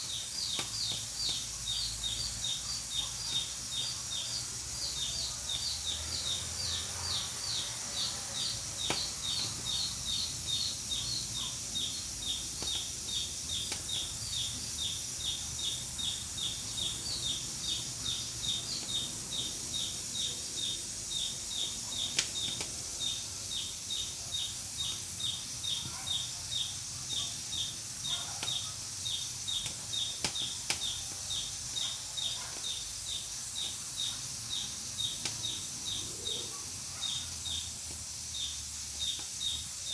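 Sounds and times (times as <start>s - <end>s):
pressure cooker hissing: 0.0s - 39.9s
wood fire crackles: 0.0s - 39.9s.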